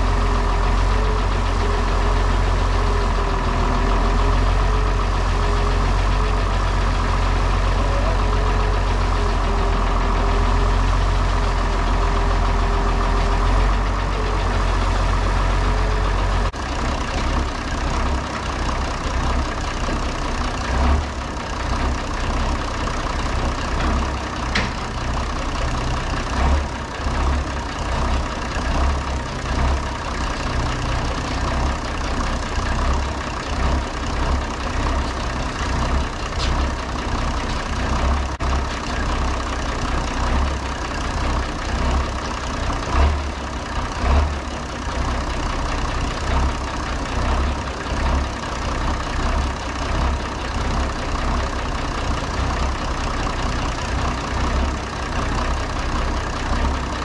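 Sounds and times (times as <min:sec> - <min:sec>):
diesel tractor engine idling: 0:00.0 - 0:57.0.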